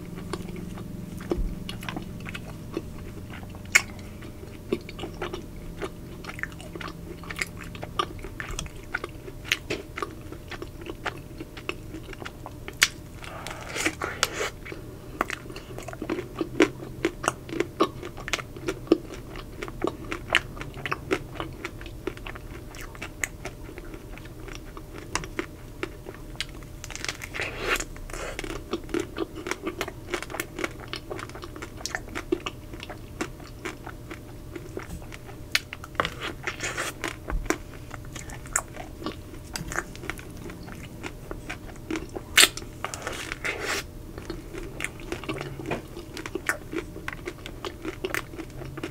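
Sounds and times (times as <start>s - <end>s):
chewing: 0.1s - 48.9s.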